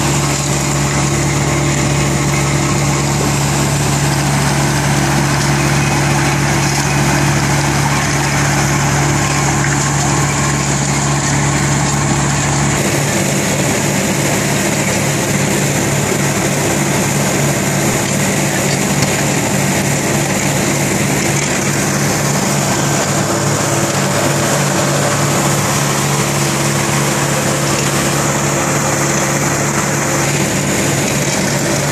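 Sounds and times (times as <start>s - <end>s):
diesel engine humming: 0.0s - 31.9s
vibrating screen and conveyors clattering: 0.0s - 31.9s.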